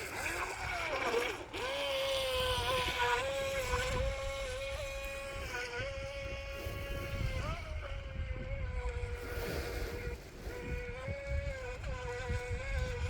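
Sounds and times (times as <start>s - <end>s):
model boat motor whining: 0.0s - 13.0s
wind rumble on microphone: 0.0s - 13.0s.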